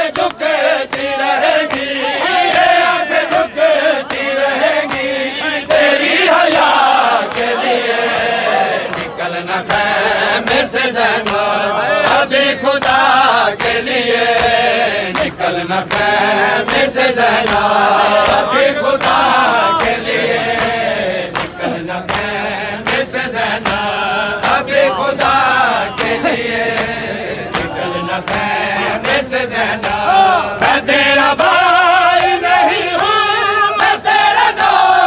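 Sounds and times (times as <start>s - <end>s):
men chanting in a group: 0.0s - 35.0s
rhythmic chest-beating slaps: 0.0s - 35.0s.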